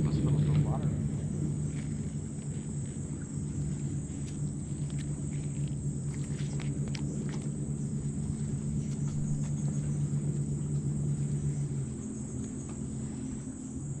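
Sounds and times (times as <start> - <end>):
insect chirring: 0.0 - 14.0
low mechanical hum: 0.0 - 14.0.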